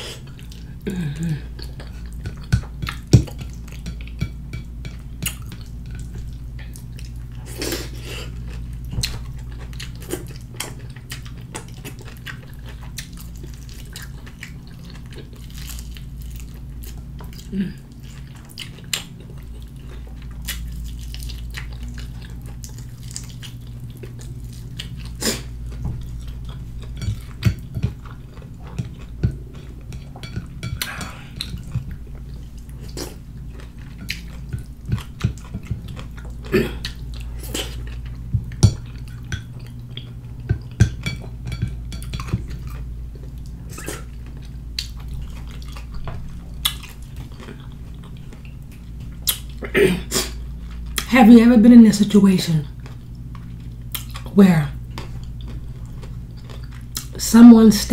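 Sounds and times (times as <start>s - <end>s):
chewing and mouth smacking: 0.2s - 0.8s, 1.4s - 49.6s, 50.4s - 51.1s, 52.7s - 57.2s.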